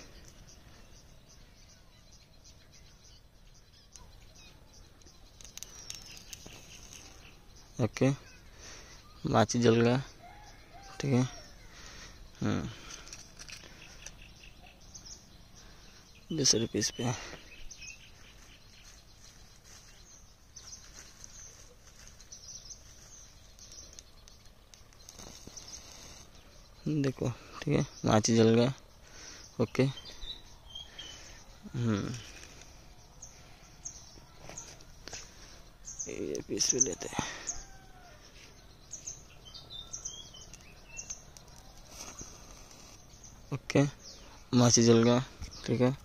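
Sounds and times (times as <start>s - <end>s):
faint bird chirps: 0.0s - 46.0s
high-pitched hiss of insects: 4.4s - 45.5s.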